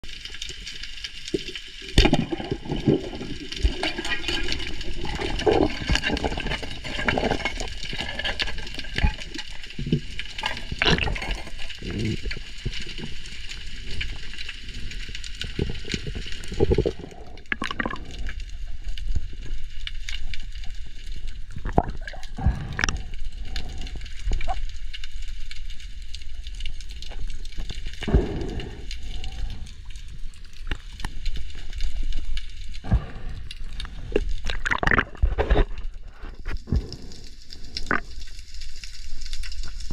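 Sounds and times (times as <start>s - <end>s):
muffled underwater rush: 2.0s - 38.1s.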